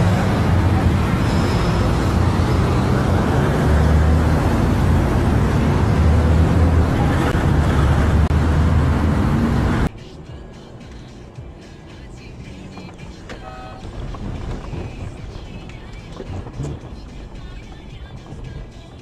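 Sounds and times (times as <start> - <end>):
car engine driving: 0.0 - 19.0
road rumble: 0.0 - 19.0.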